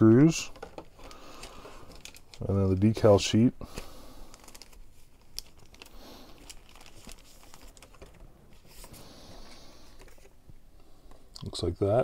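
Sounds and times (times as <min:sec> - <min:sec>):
plastic packaging crinkling: 0:00.4 - 0:10.3.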